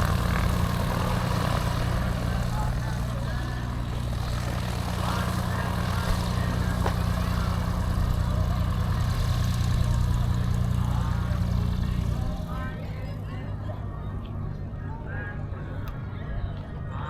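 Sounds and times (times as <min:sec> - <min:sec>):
engine idling: 0:00.0 - 0:17.0
faint voices: 0:00.0 - 0:17.0.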